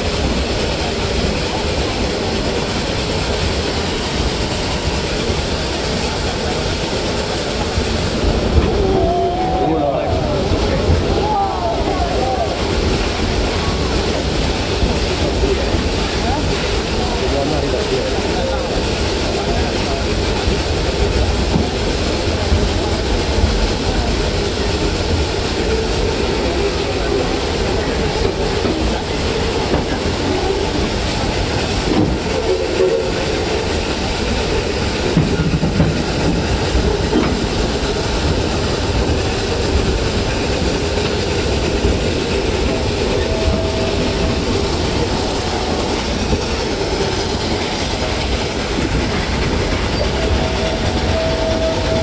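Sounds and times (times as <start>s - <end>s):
steam locomotive rumbling: 0.0s - 52.0s
train cars rolling on rails: 0.0s - 52.0s.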